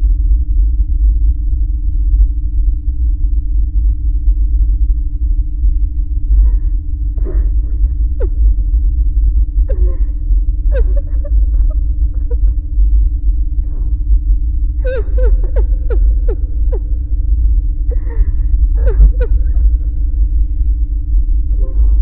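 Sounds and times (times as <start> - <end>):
low rumbling drone: 0.0 - 22.0
steady hum: 0.0 - 22.0.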